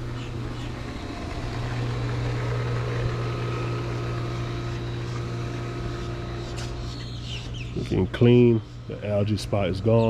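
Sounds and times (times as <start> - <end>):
motor humming: 0.0 - 10.0.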